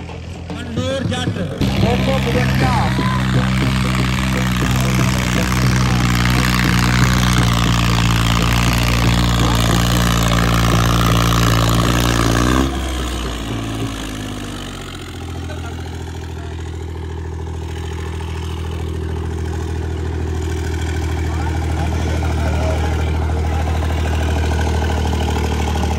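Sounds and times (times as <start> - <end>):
tractor engine under load: 0.0 - 25.9
disc plough through soil: 1.6 - 25.9.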